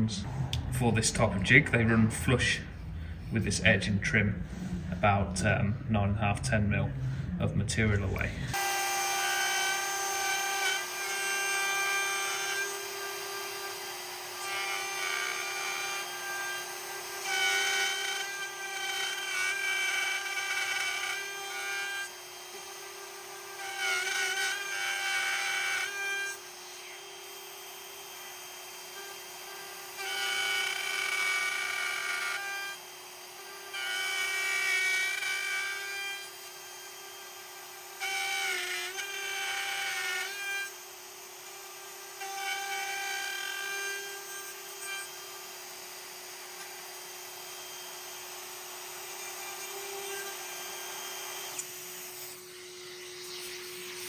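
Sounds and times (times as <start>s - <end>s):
trim router cutting wood: 7.8s - 54.0s.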